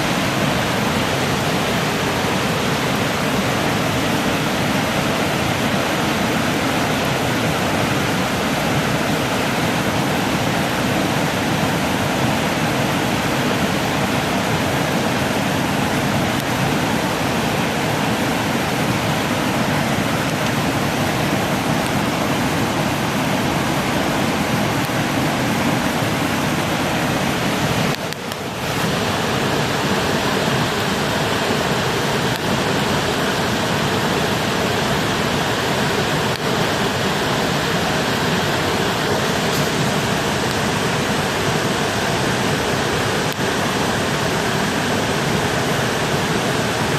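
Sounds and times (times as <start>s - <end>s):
river flowing: 0.0s - 46.9s.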